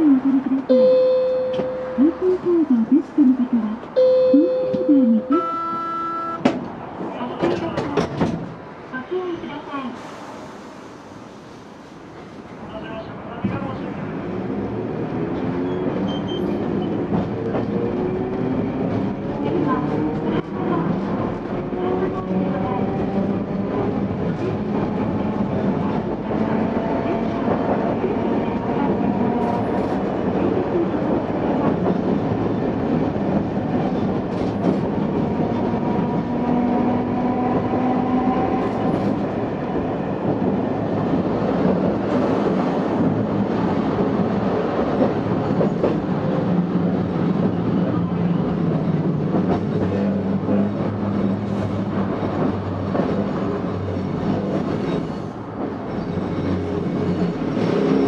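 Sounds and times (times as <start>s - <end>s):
streetcar wheels rumbling on rail: 0.0s - 58.0s.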